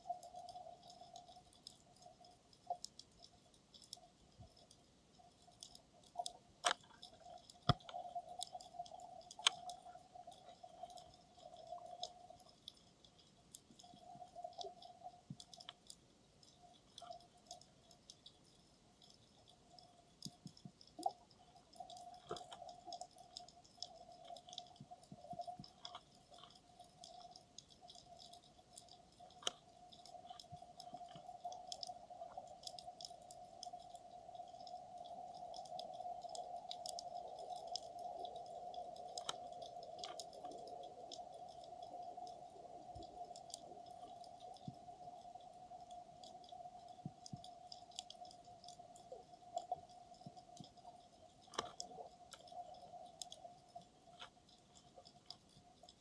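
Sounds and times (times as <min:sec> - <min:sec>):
steady underwater hum: 0:00.0 - 0:56.0
underwater clicks and crackles: 0:00.0 - 0:56.0.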